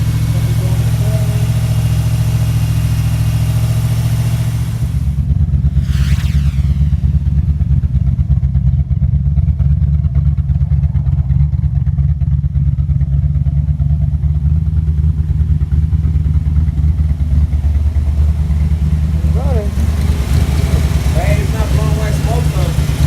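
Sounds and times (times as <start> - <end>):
car engine idling rough: 0.0 - 23.0.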